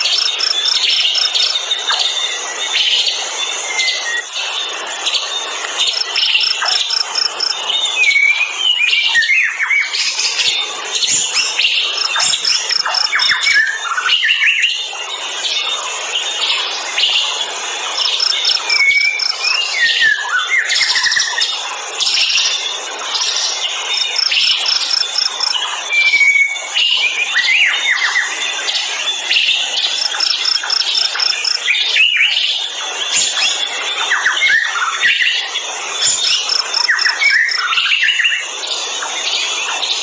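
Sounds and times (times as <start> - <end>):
forest birds chirping: 0.0 - 40.0.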